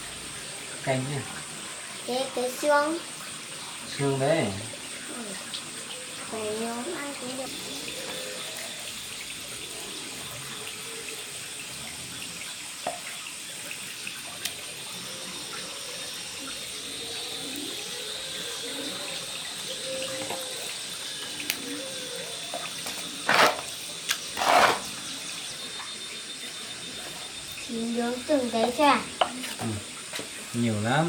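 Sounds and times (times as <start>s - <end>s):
tap water running: 0.0s - 31.0s.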